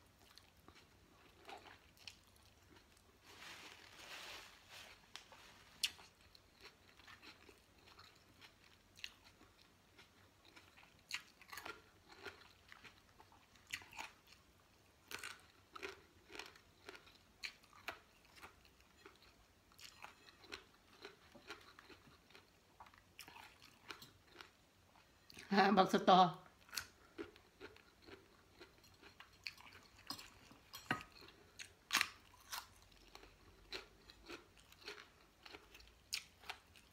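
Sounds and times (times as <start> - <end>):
chewing crunchy vegetables: 0.0 - 25.5, 26.5 - 36.9.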